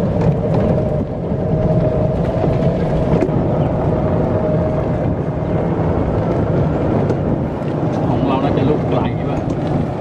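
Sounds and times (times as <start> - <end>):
low rolling rumble: 0.0 - 10.0.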